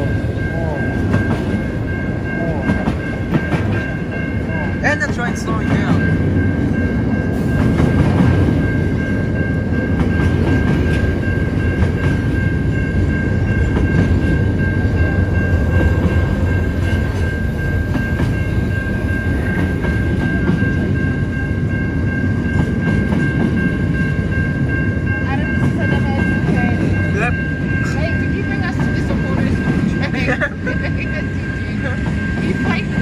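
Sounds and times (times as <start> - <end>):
freight train wheels rumbling: 0.0 - 33.0
level crossing warning bell: 0.0 - 33.0.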